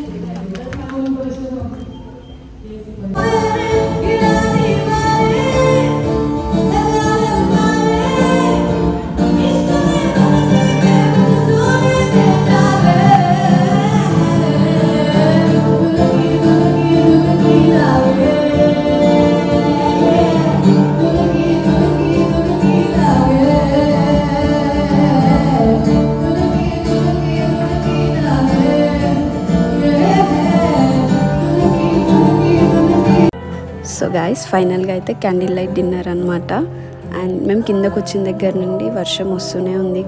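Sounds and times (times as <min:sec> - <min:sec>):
guitar: 0:00.0 - 0:40.0
person singing: 0:03.1 - 0:40.0.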